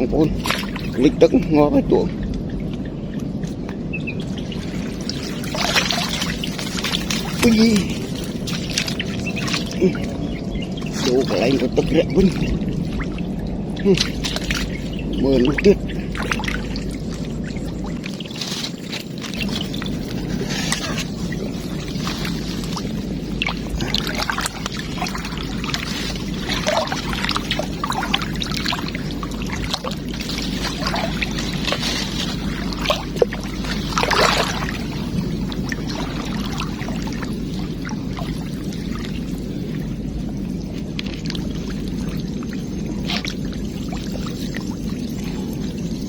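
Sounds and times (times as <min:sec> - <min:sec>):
floodwater pouring: 0:00.0 - 0:46.0
water splashes: 0:00.0 - 0:46.0.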